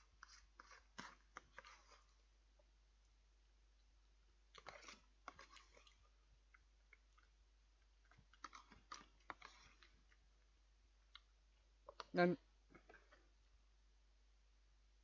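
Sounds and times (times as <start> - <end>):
person chewing food: 0.0 - 13.7.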